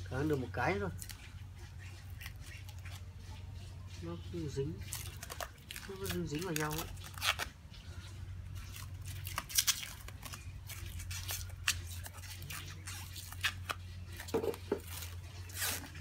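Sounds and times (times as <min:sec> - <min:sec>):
cling film crackling and peeling: 0:00.0 - 0:03.8, 0:04.4 - 0:16.0.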